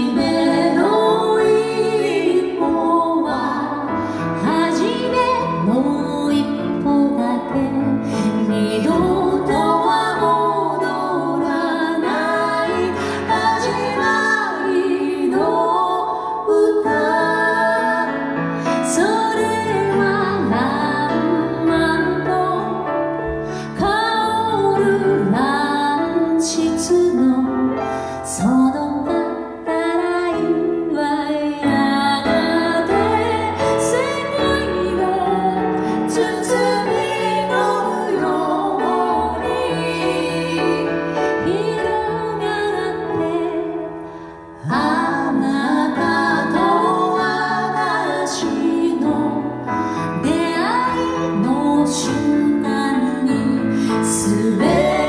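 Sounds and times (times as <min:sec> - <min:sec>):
woman singing: 0:00.0 - 0:22.9, 0:23.6 - 0:44.0, 0:44.6 - 0:55.0
grand piano accompaniment: 0:00.0 - 0:55.0.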